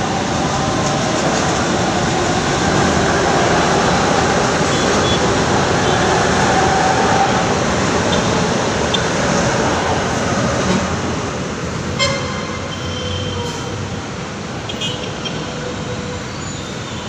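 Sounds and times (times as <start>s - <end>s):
light rail train rumbling: 0.0s - 17.0s
road traffic noise: 0.0s - 17.0s.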